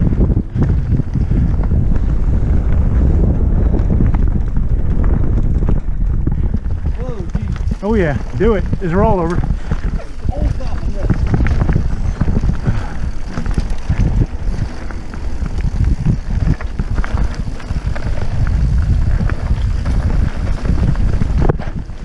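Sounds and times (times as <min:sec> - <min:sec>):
bike knocks and rattles: 0:00.0 - 0:22.0
tyres rumbling over rock: 0:00.0 - 0:22.0
wind buffeting microphone: 0:00.0 - 0:22.0.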